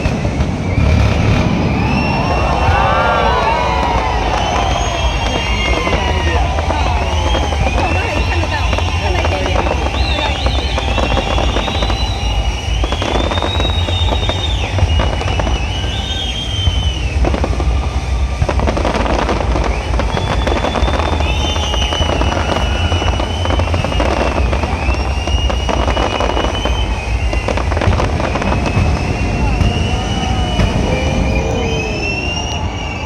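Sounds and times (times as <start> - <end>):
deep rumble: 0.0 - 33.0
fireworks bursts and crackling: 0.0 - 33.0
fireworks whistling: 0.0 - 33.0.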